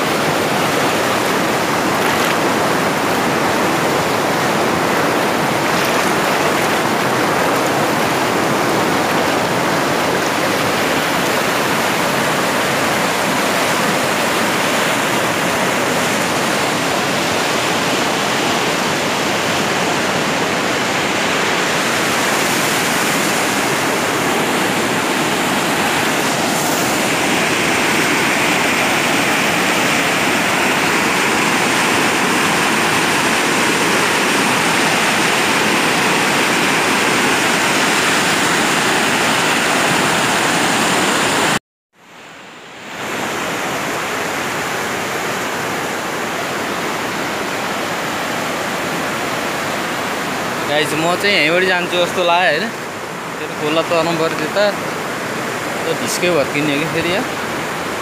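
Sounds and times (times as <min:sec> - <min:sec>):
river rapids rushing: 0:00.0 - 0:41.6, 0:42.2 - 0:58.0.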